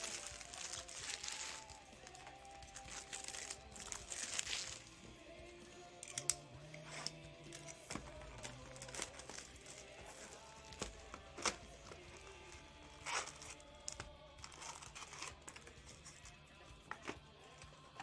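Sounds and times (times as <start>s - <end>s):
wrappers crinkling and ripping: 0.0s - 5.1s, 6.0s - 16.2s
faint background music: 0.0s - 18.0s.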